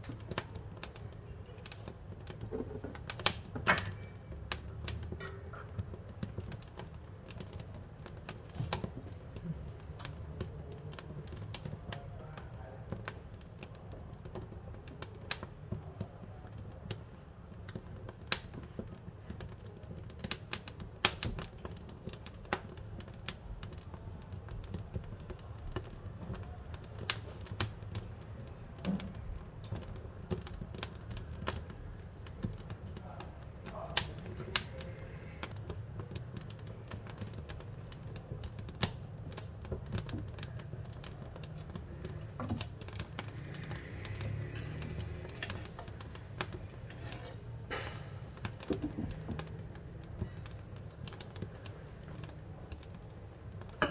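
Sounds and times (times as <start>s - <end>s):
low rumble of burning wood: 0.0s - 53.9s
wood fire crackling: 0.0s - 53.9s.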